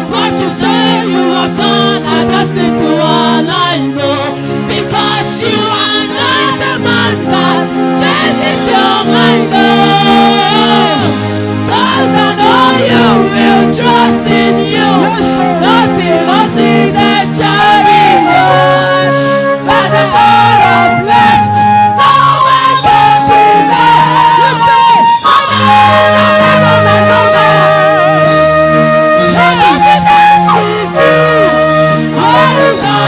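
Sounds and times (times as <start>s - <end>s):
voices singing worship music: 0.0s - 33.0s.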